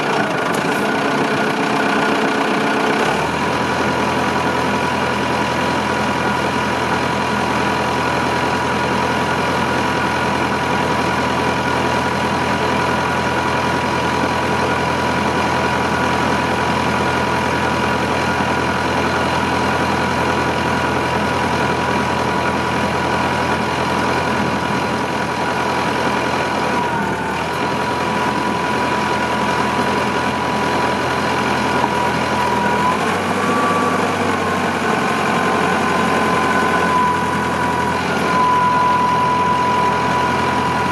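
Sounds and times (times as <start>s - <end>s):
loader engine idling: 0.0s - 40.9s.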